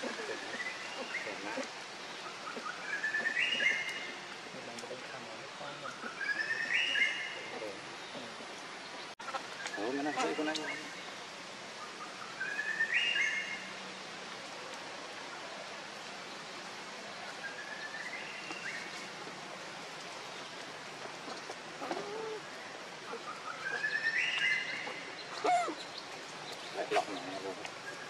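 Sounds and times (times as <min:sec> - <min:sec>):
forest background hiss: 0:00.0 - 0:28.0.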